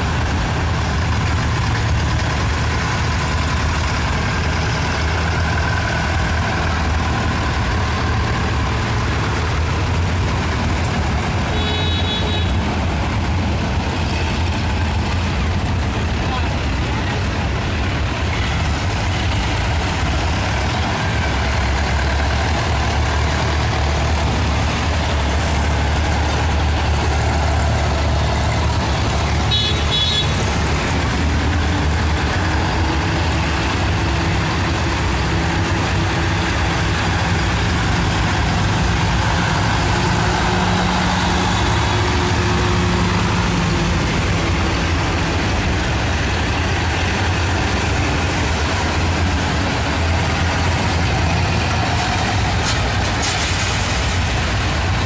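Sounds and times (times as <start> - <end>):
tractor engines rumbling: 0.0 - 55.0.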